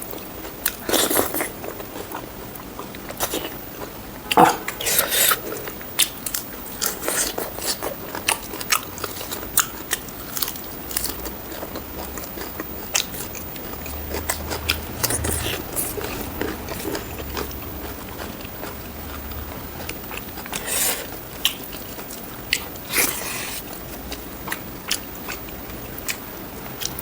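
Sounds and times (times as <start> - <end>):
person biting and chewing crunchily: 0.5 - 26.2.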